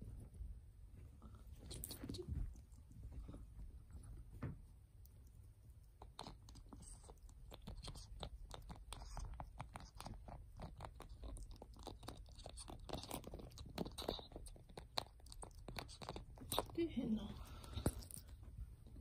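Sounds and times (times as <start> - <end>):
ferret chewing and licking: 1.5 - 18.6.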